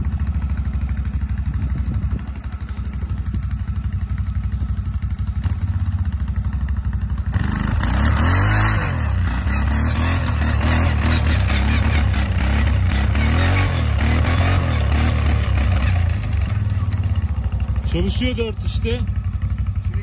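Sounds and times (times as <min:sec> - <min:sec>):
wheels spinning in snow: 0:00.0 - 0:19.0
atv engine idling and revving: 0:00.0 - 0:20.0.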